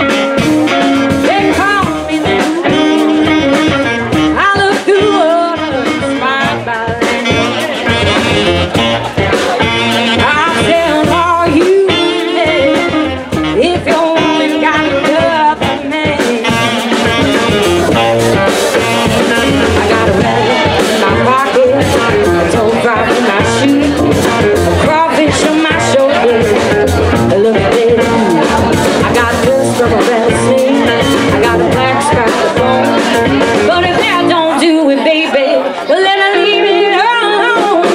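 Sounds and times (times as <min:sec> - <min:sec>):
woman singing into a microphone: 0:00.0 - 0:07.6, 0:10.2 - 0:18.1, 0:19.2 - 0:37.9
live band playing: 0:00.0 - 0:37.9.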